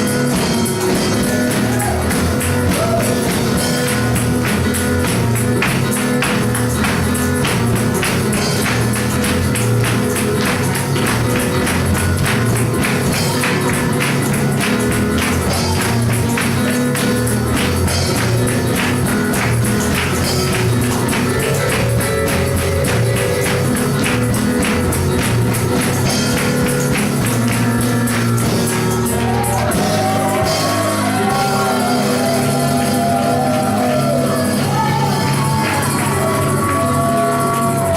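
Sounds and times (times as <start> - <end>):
sustained bass notes and chords: 0.0 - 37.9
tambourine shaken: 0.1 - 37.9.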